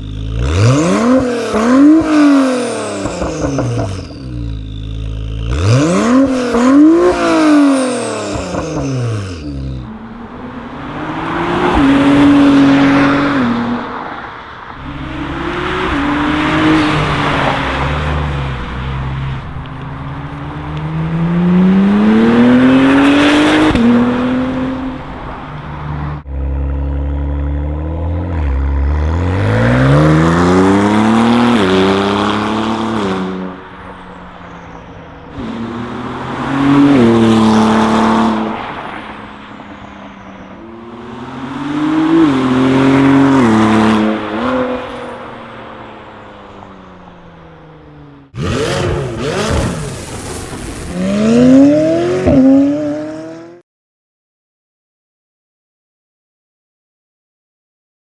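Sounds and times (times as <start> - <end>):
car engine accelerating past: 5.6 - 47.3, 48.3 - 53.6.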